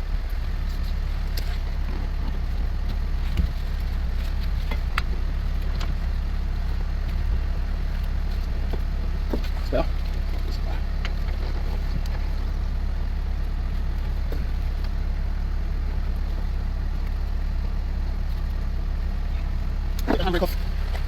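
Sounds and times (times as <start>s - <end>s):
engine running low rumble: 0.0s - 21.0s.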